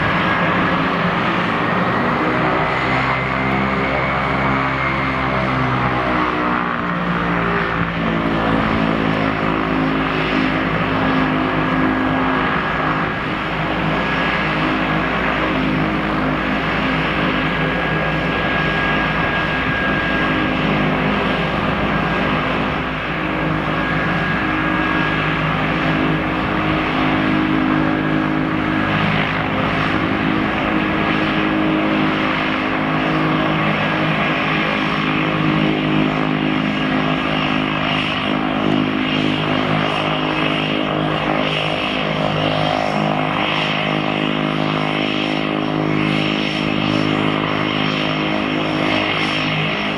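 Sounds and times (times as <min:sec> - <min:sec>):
high turbine whine: 0:00.0 - 0:49.9
turboprop engine running: 0:00.0 - 0:49.9.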